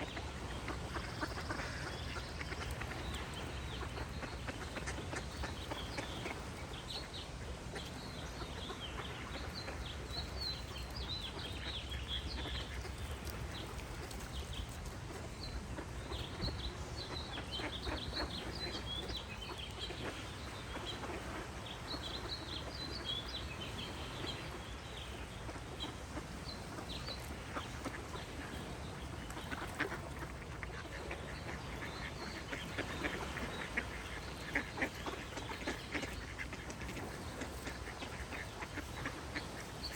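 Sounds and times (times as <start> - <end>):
ducks quacking: 0.0 - 14.2, 15.0 - 39.9
small birds chirping: 0.0 - 39.9.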